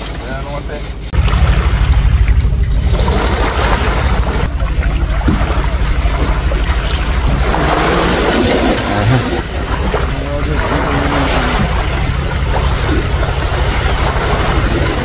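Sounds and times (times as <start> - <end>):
surf waves rolling in: 0.9 - 15.0.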